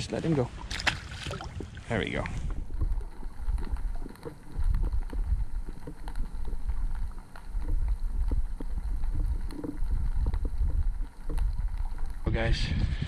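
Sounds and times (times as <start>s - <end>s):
small underwater clicks and knocks: 0.0s - 12.4s
muffled underwater water rumble: 0.0s - 13.0s.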